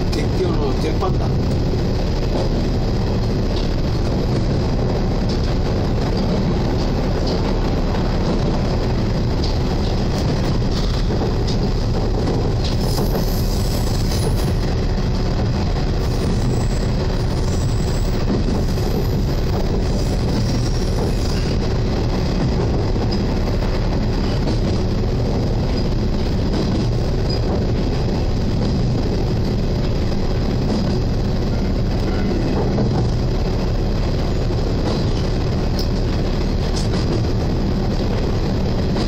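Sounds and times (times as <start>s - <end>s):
distorted train rumble: 0.0s - 39.0s.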